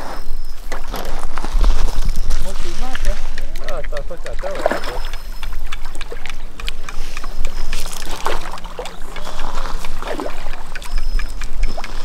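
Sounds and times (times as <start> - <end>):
water slapping against boat hull: 0.6 - 12.0
short splashes and knocks: 0.7 - 12.0.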